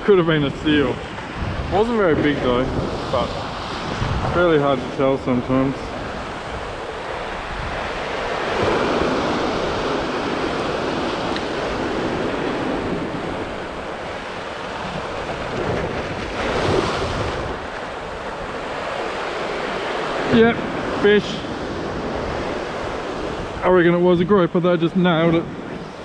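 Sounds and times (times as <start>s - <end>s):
surf washing against rocks: 0.0s - 26.0s
wind on microphone: 0.0s - 26.0s.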